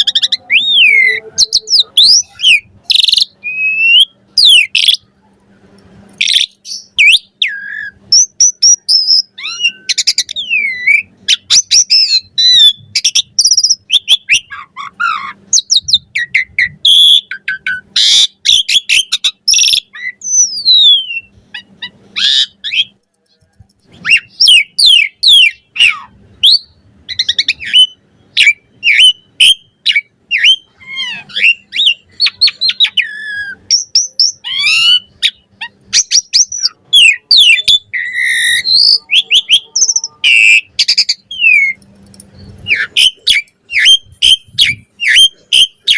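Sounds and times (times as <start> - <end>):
starling singing whistles: 0.0 - 5.0, 6.2 - 21.4, 24.0 - 41.8, 42.4 - 45.9.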